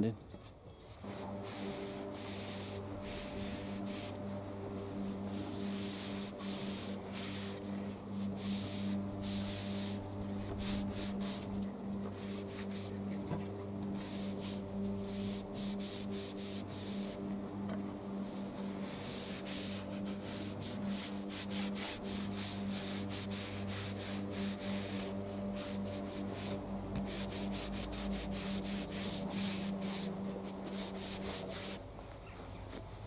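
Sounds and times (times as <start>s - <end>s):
steady low hum: 1.0s - 33.0s
sanding wood rasping strokes: 1.1s - 31.8s.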